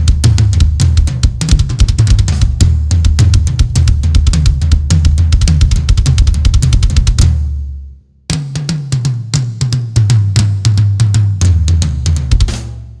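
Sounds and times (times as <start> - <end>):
drum kit playing fast runs: 0.0 - 7.6, 8.3 - 13.0.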